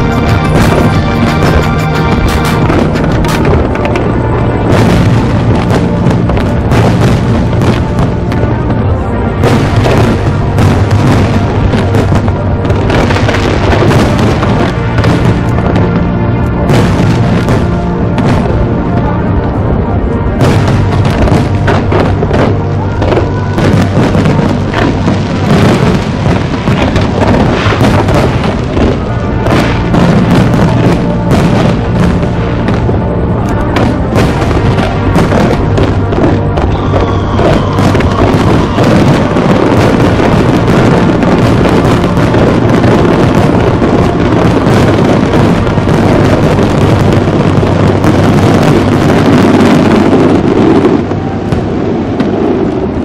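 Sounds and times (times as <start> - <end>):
fireworks booming and banging: 0.0 - 53.0
loud music: 0.0 - 53.0.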